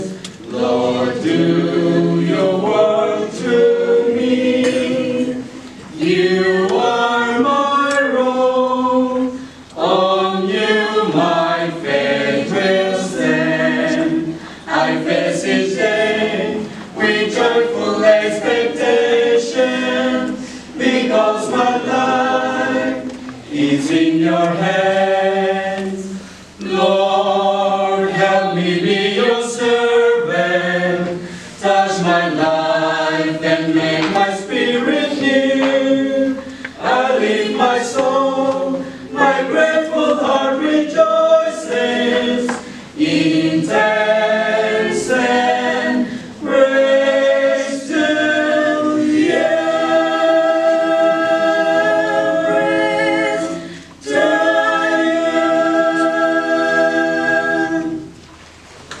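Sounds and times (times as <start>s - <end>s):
mixed choir singing a hymn: 0.0s - 58.3s.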